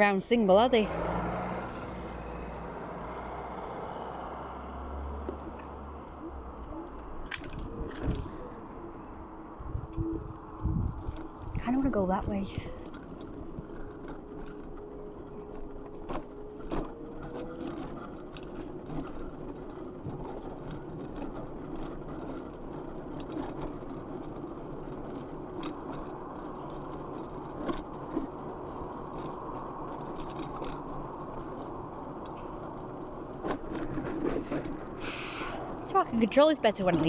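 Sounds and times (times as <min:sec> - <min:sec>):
electric scooter motor hum: 0:00.0 - 0:37.0
road traffic: 0:00.0 - 0:37.0.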